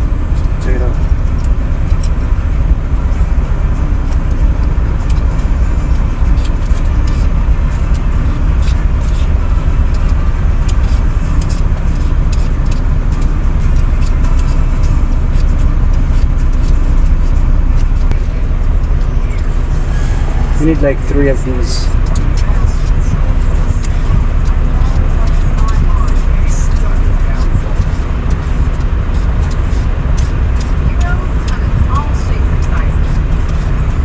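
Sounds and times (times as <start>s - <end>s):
diesel truck idling: 0.0s - 34.0s
potato being peeled: 0.0s - 34.0s.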